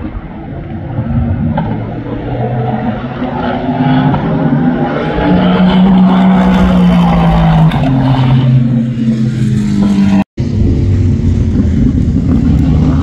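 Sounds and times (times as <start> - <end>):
another race car engine: 0.4 - 13.0.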